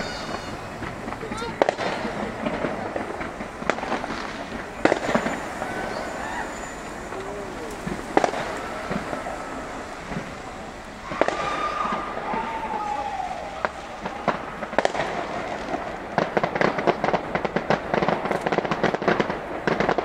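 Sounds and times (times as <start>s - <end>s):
firework bangs: 0.0s - 20.0s
rapid firework crackling: 0.0s - 20.0s.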